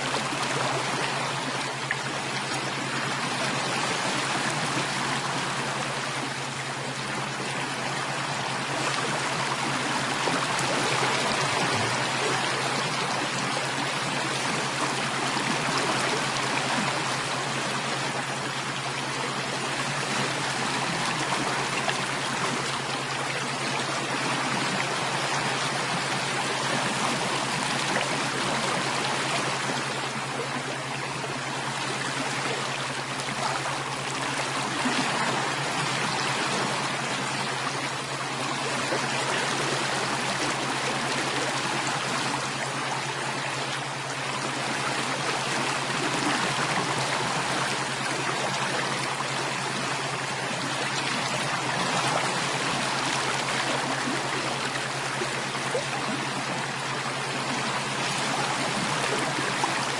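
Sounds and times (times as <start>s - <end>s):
steady low hum: 0.0s - 59.9s
stream water rushing: 0.0s - 59.9s.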